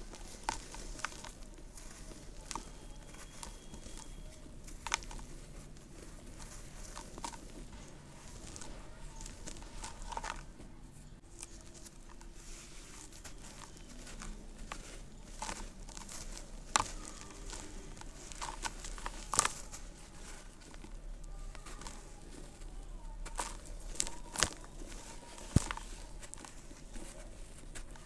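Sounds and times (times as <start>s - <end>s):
dry dirt crumbling and crunching: 0.0s - 28.0s
small crackles and snaps: 0.0s - 28.0s.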